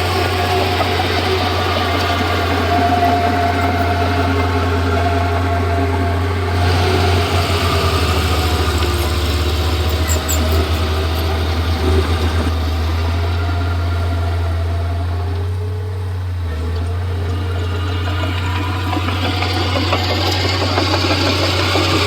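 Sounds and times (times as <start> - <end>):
bulldozer diesel engine humming: 0.0 - 22.0.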